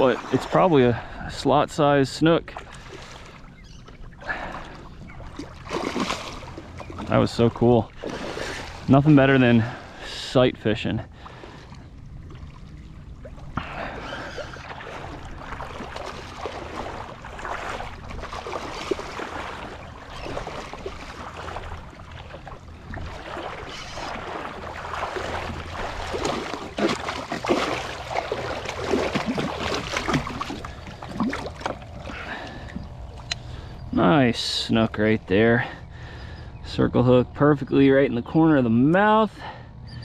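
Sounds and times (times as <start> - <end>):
water splashing beside kayak: 0.0 - 34.0.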